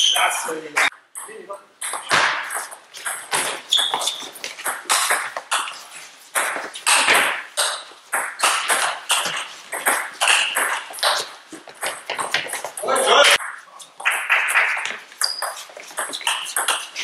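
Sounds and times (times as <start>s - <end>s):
table tennis ball hitting bats: 0.0s - 17.0s
ball bouncing on table: 0.8s - 12.8s, 13.4s - 17.0s.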